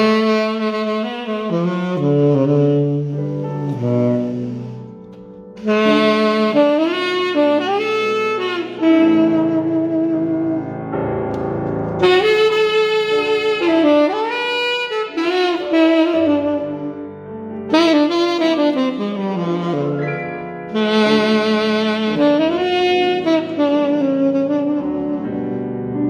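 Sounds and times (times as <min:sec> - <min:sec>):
grand piano accompaniment: 0:00.0 - 0:26.0
saxophone jazz melody: 0:00.0 - 0:26.0.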